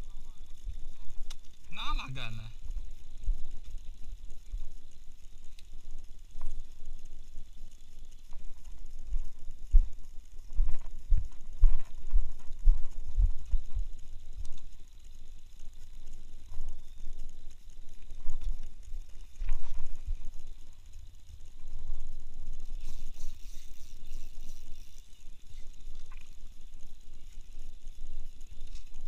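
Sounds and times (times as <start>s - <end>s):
fishing reel clicking and whirring: 0.0s - 29.0s.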